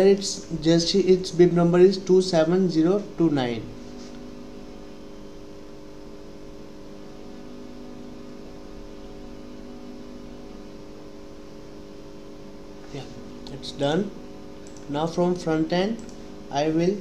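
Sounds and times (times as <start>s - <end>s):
electrical hum with held tones: 0.0s - 17.0s.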